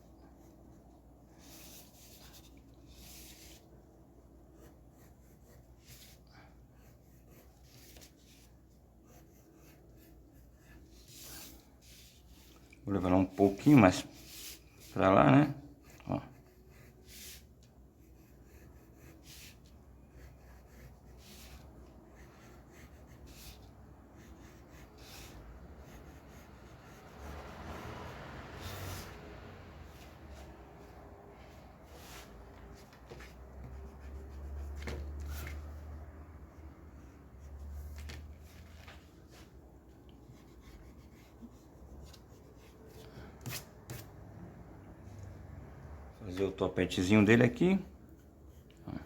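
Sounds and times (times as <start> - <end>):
pencil scratching on paper: 0.0 - 30.9, 31.5 - 38.3, 40.2 - 44.2, 48.1 - 49.0.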